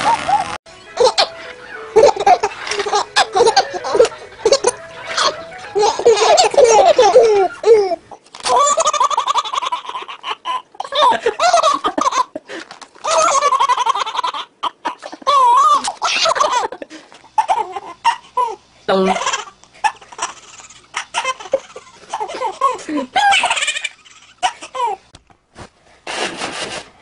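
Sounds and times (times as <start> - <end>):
baby laughing: 0.0 - 12.4, 13.0 - 25.1.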